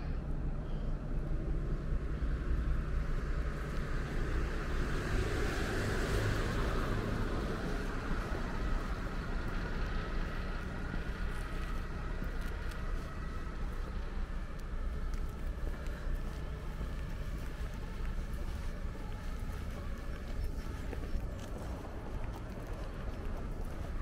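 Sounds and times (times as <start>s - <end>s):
low traffic rumble: 0.0s - 24.0s
vehicle passing: 1.6s - 24.0s.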